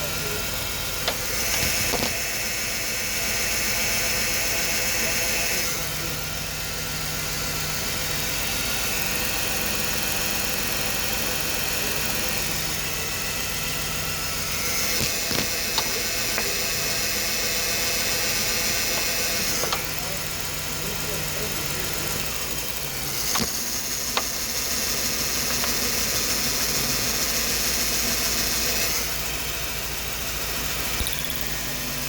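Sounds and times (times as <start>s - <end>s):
car engine idling with misfire: 0.0s - 32.0s.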